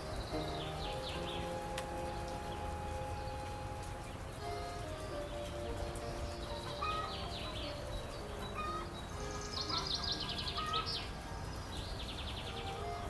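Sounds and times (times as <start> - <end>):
birds chirping trills: 0.0 - 13.0
soft background music: 0.0 - 13.0
whistled bird notes: 0.0 - 13.0.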